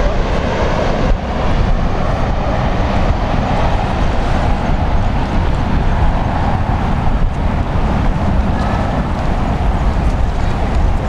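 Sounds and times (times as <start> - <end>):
jet engine rush: 0.0 - 11.0
wind noise on microphone: 0.0 - 11.0.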